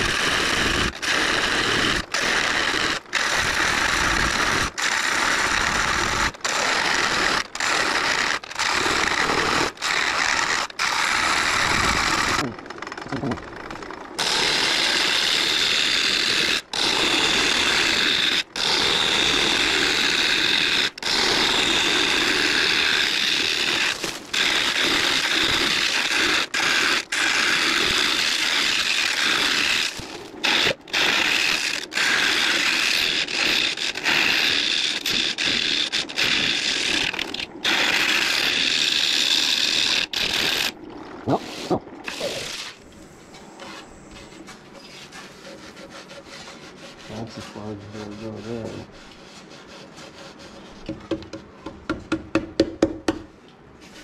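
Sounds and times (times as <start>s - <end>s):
lathe tool rasping wood: 0.0s - 12.5s, 14.2s - 50.6s.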